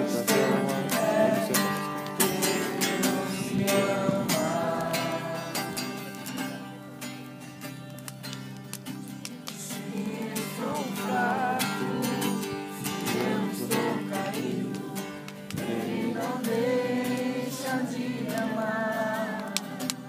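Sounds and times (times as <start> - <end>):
group singing worship song: 0.0 - 6.3, 9.6 - 20.0
strummed acoustic guitar: 0.0 - 20.0.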